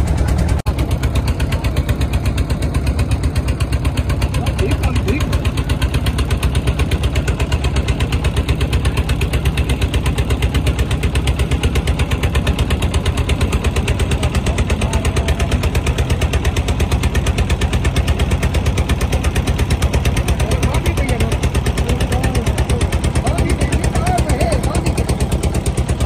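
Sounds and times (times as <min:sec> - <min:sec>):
boat engine chugging: 0:00.0 - 0:26.0.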